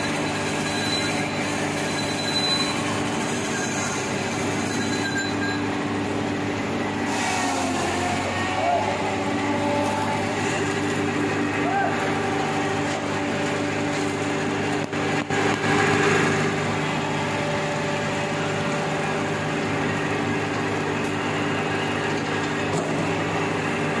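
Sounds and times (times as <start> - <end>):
baling machine humming: 0.0 - 24.0.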